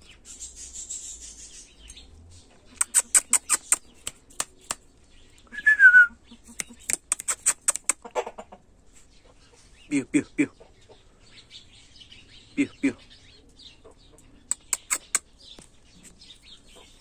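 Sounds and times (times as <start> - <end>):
bird chirping: 0.0 - 8.1, 8.9 - 17.0.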